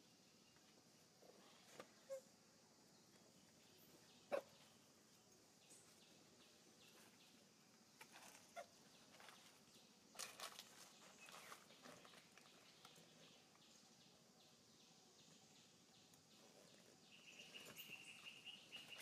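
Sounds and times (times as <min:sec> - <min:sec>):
rustles: 0:00.0 - 0:02.4, 0:03.0 - 0:14.0, 0:16.1 - 0:19.0
faint outdoor ambience: 0:00.0 - 0:19.0.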